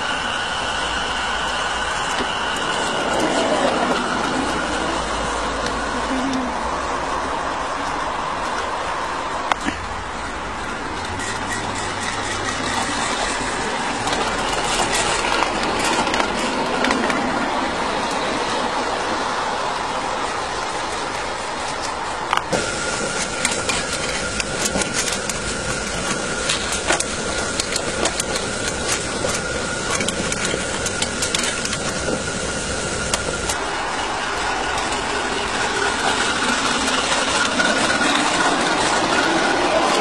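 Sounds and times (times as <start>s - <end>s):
locomotive clicks and rattles: 0.0s - 40.0s
steam hiss: 0.0s - 40.0s.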